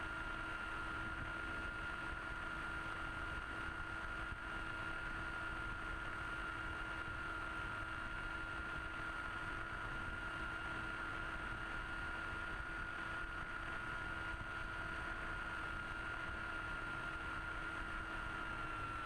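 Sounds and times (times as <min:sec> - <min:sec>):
electric motor propeller whine: 0:00.0 - 0:19.0.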